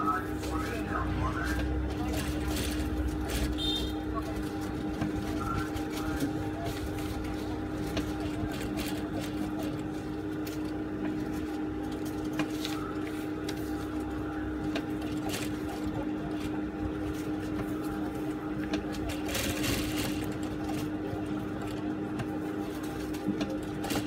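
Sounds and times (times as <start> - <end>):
sewing machine humming: 0.0 - 24.0.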